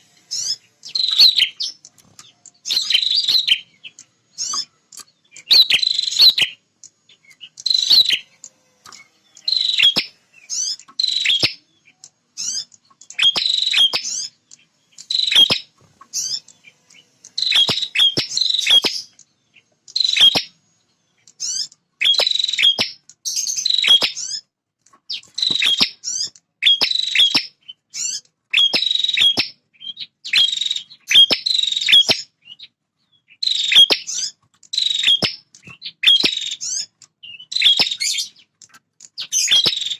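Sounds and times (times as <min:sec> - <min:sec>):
bird singing shrill chattering: 0:00.0 - 0:39.9.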